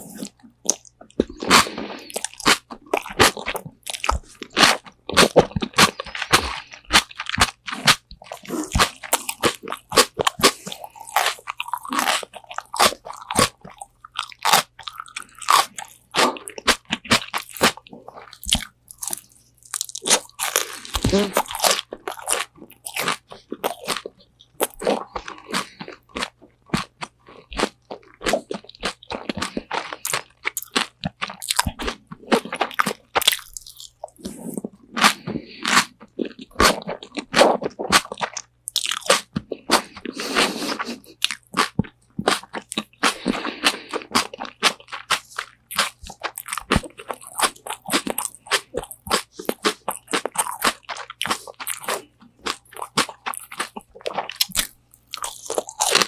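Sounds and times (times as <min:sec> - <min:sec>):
crunching fried chicken: 0:00.0 - 0:56.0
wet chewing: 0:00.0 - 0:56.0.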